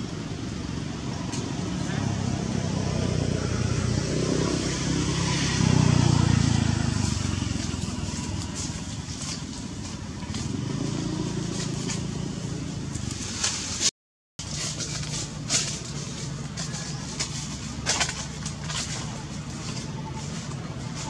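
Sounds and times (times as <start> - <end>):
dry leaves rustling: 0.0 - 21.0
passing vehicles engine rumble: 0.0 - 21.0.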